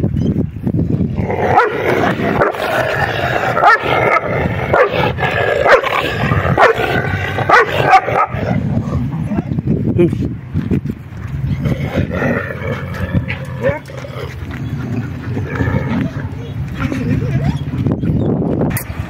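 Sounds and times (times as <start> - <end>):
dogs snarling and barking: 1.1 - 9.4, 11.3 - 19.0.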